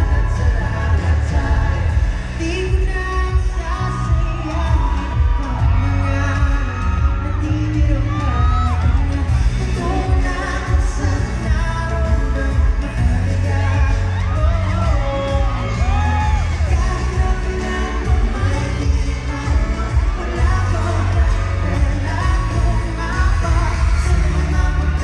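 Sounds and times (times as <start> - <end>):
backing track with heavy bass: 0.0 - 25.0
male vocal group singing pop song: 0.0 - 25.0.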